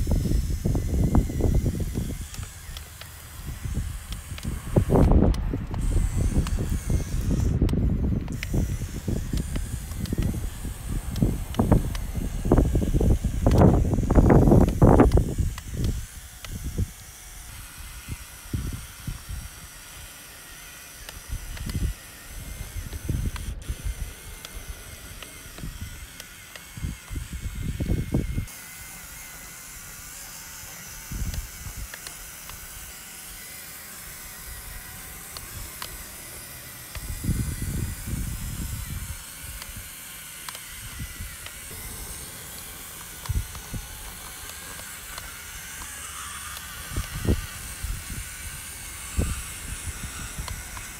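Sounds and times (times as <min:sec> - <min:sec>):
toy truck electric motor whirring: 0:00.0 - 0:50.9.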